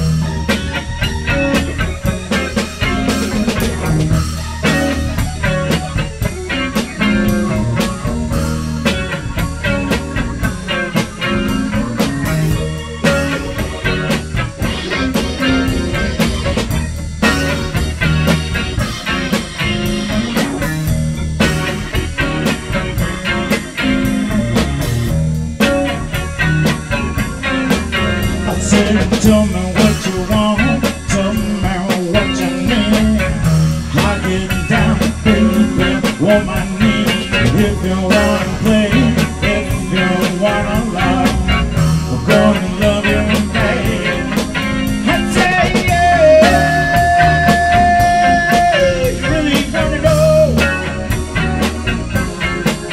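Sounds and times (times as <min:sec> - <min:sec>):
drum kit: 0:00.0 - 0:52.9
electric guitar: 0:00.0 - 0:52.9
keyboard: 0:00.0 - 0:52.9.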